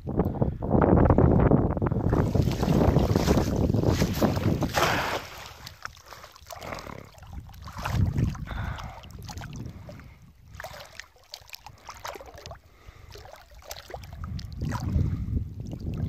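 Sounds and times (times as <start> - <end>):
wind rumbling on microphone: 0.0 - 11.0, 11.6 - 16.0
water splashing and dripping: 2.1 - 16.0.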